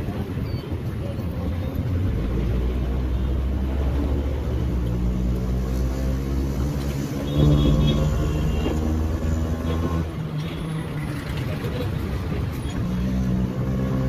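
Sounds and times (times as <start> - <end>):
auto rickshaw engine droning: 0.0 - 14.0
street traffic: 0.0 - 14.0.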